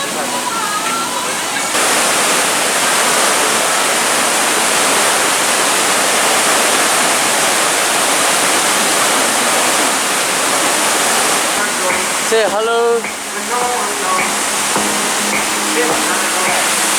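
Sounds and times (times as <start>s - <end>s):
loud rushing hiss: 1.0s - 16.9s.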